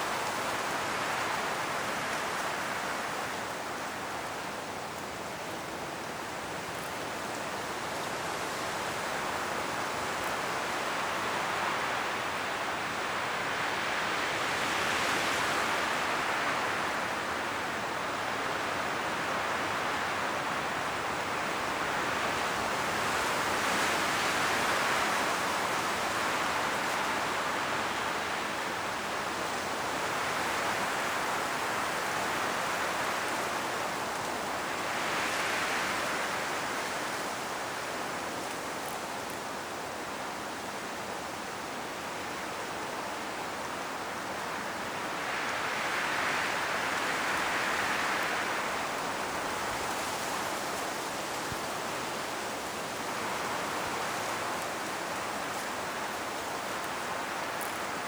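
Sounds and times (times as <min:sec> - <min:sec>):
wind rustling leaves in trees: 0:00.0 - 0:58.0.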